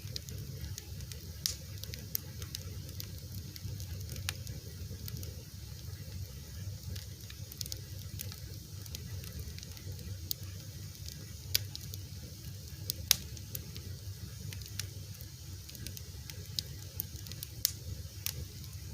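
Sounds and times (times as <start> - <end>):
fire crackling and popping: 0.0 - 18.9.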